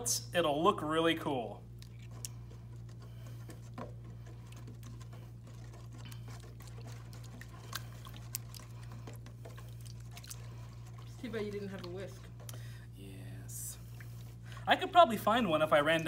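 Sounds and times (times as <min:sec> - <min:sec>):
wet slime squelching: 0:00.0 - 0:16.0.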